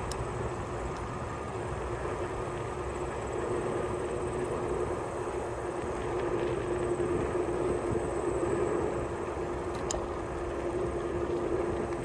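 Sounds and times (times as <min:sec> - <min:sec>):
steady hum: 0:00.0 - 0:12.0
wheels rolling over asphalt: 0:00.0 - 0:12.0
wind noise on microphone: 0:00.0 - 0:12.0.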